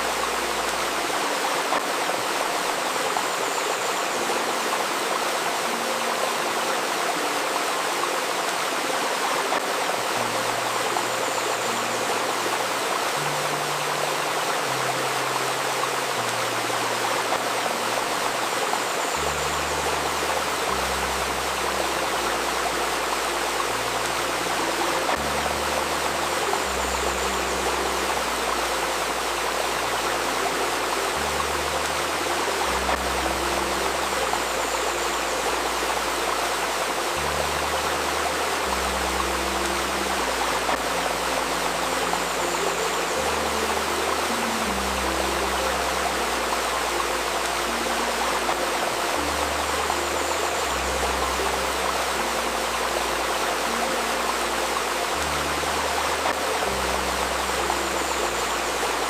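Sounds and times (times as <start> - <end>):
soft low music notes: 0.0 - 59.0
stream babbling: 0.0 - 59.0.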